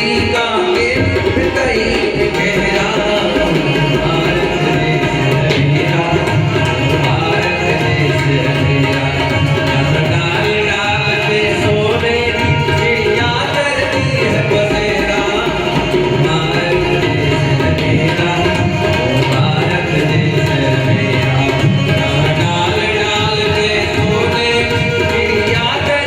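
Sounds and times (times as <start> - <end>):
tabla drumming: 0.0 - 26.0.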